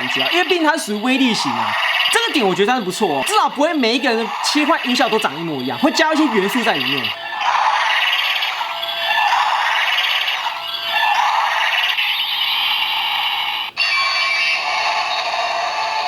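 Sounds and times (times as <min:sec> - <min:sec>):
toy electronic sound effect and music: 0:00.0 - 0:16.0.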